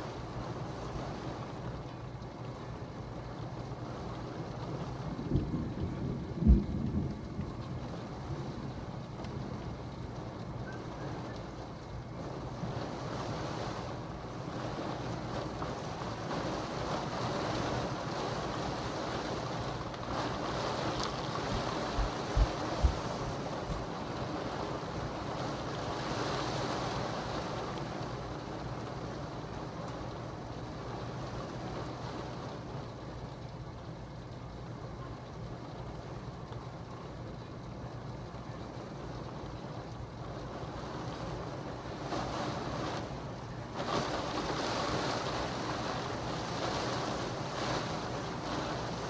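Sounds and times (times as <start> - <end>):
heavy rain: 0.0 - 49.0
wind: 0.0 - 49.0.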